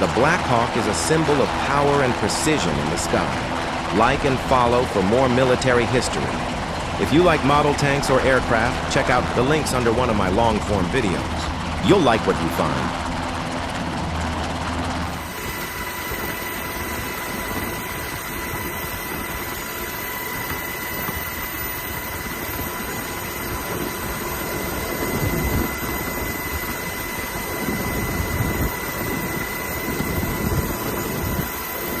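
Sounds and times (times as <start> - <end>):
helicopter turbine whine and rumble: 0.0 - 32.0.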